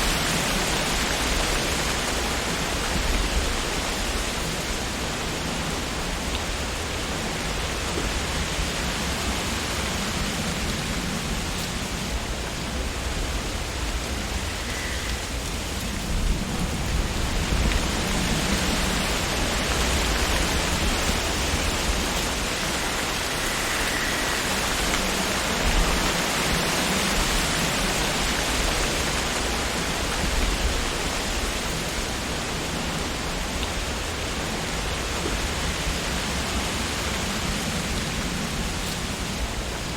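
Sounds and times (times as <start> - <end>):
wind rustling tree leaves: 0.0 - 39.9.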